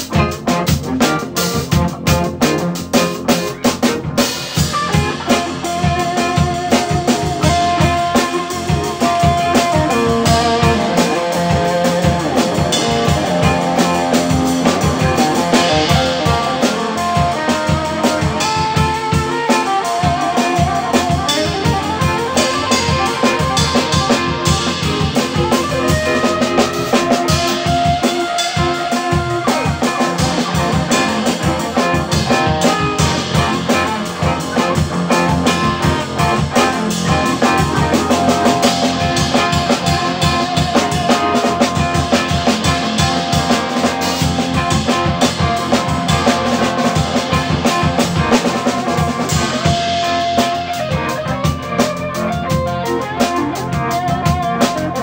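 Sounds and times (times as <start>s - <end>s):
busy drumming: 0.0s - 55.0s
wavering lead melody: 0.0s - 55.0s.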